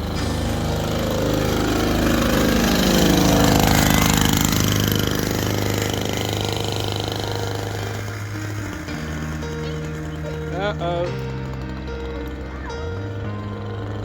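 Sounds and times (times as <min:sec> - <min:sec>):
mini bike engine revving: 0:00.0 - 0:14.0.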